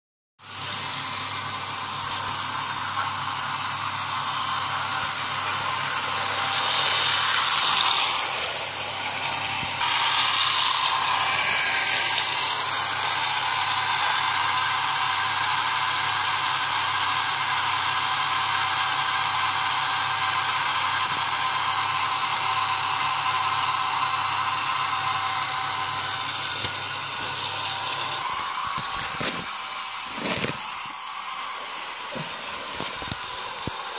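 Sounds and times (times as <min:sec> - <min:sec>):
toy train motor whine: 0:00.4 - 0:33.9.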